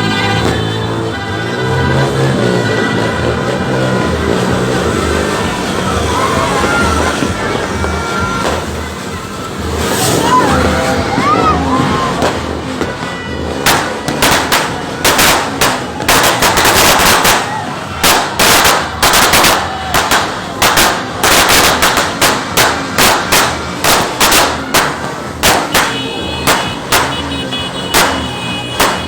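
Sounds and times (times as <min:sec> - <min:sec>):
firecrackers banging: 0:00.0 - 0:29.0.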